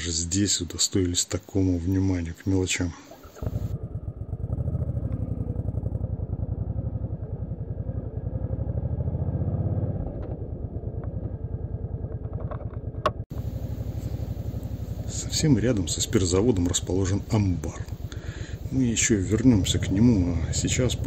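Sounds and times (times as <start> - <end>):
motorcycle engine pulsing: 3.1 - 21.0.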